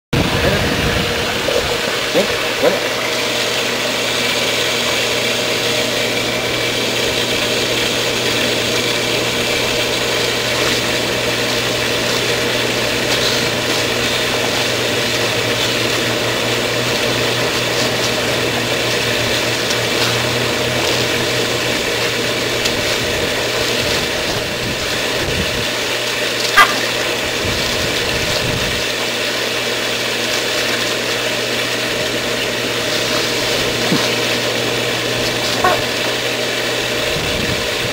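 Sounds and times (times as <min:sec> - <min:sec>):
pool pump motor humming: 0:00.1 - 0:37.9.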